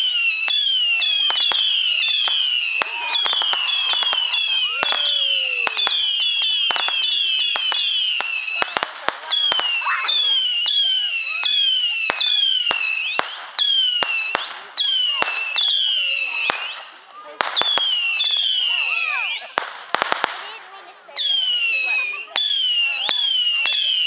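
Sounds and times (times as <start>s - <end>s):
firework bangs and pops: 0.0s - 24.0s
whistling fireworks: 0.0s - 24.0s.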